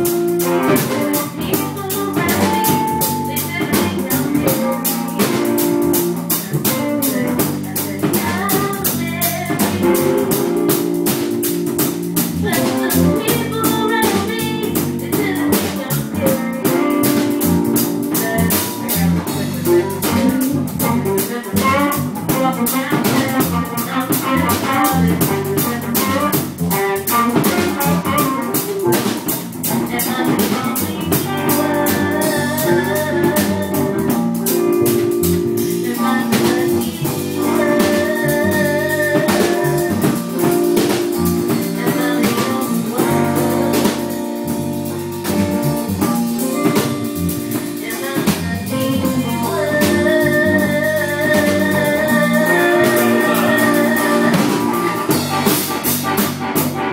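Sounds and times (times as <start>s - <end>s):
drum kit playing: 0.0s - 56.9s.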